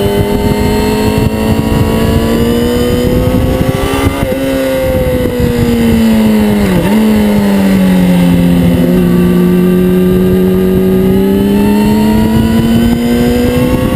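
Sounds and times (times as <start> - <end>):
motorcycle engine at high revs: 0.0 - 13.9.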